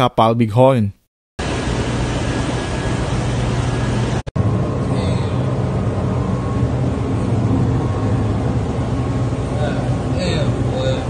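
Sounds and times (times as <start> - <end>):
low hum: 1.4 - 11.0
ship machinery rumbling: 1.4 - 11.0.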